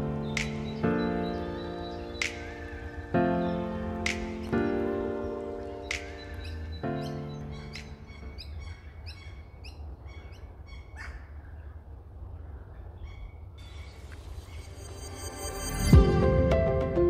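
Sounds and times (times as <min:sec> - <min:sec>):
birds chirping downward: 0:00.0 - 0:15.2.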